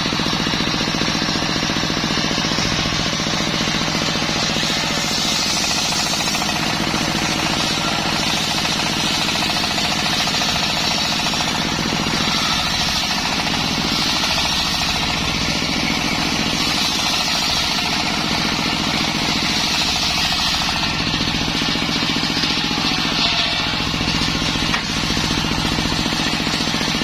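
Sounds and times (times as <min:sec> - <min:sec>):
circular saw running: 0:00.0 - 0:27.0.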